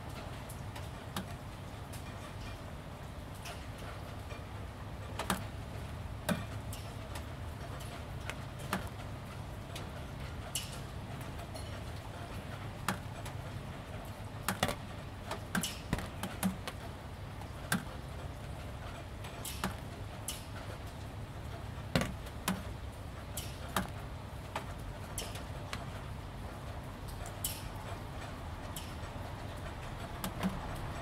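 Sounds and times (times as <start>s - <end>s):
drops tapping on metal roof: 3.4s - 31.0s.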